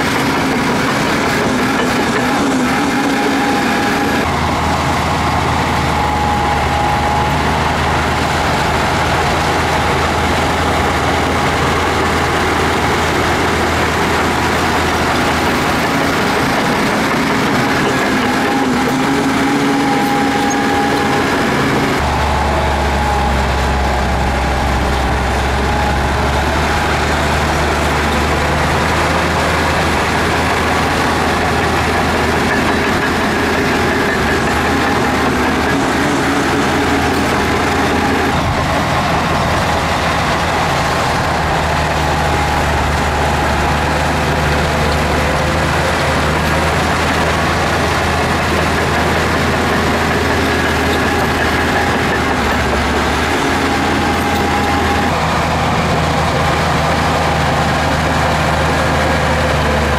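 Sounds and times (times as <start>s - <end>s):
bulldozer diesel engine drone: 0.0s - 59.9s.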